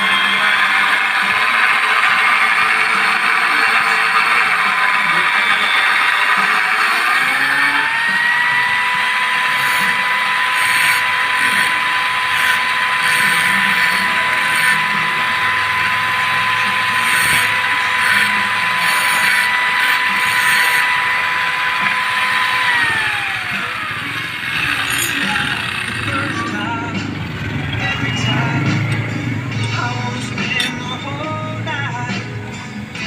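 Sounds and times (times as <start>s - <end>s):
rasping cutting noise: 0.0s - 27.2s
angle grinder whine: 0.0s - 33.0s.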